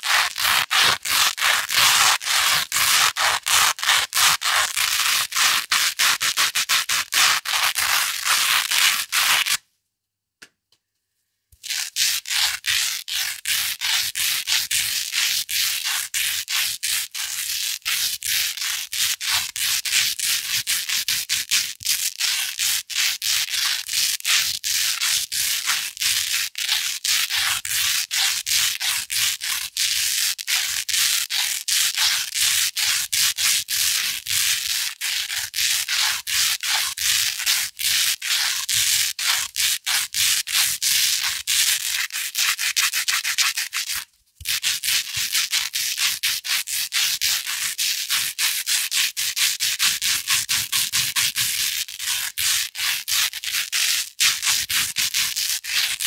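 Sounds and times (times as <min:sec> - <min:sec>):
velcro scratching against fabric: 0:00.0 - 0:09.6, 0:11.6 - 0:56.0.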